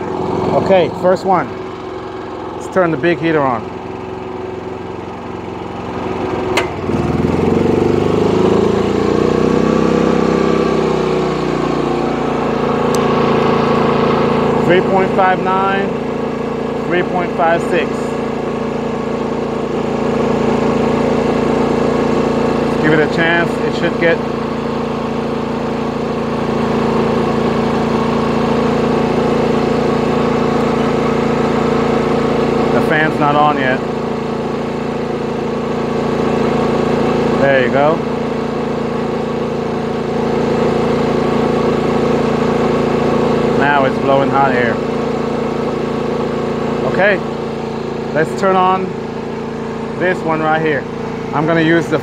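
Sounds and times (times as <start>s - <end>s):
generator engine running: 0.0s - 52.0s.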